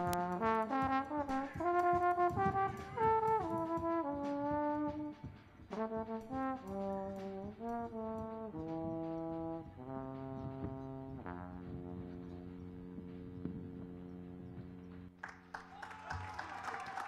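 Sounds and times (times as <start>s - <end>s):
trombone playing a melody: 0.0s - 14.9s.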